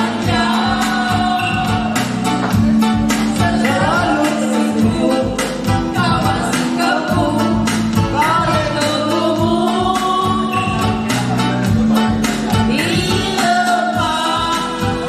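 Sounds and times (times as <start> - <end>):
person singing over a beat: 0.0 - 15.0.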